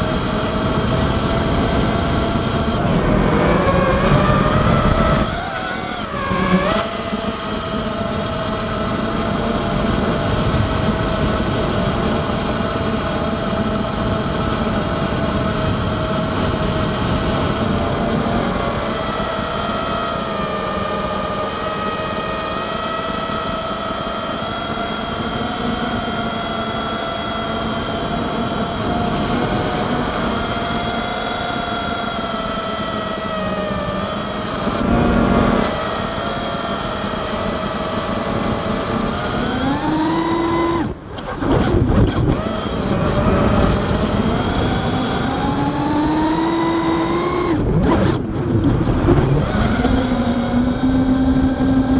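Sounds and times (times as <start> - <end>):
constant high-pitched tone: 0.0 - 51.9
drone motors whining: 0.0 - 51.9
rush of wind: 0.0 - 51.9.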